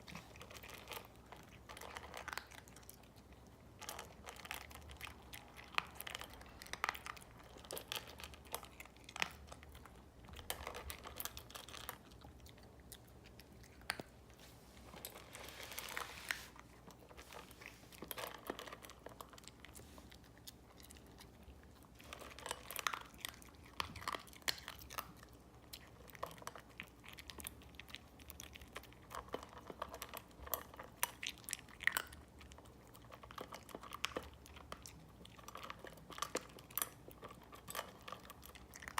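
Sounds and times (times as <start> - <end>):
dog chewing food: 0.0 - 38.9.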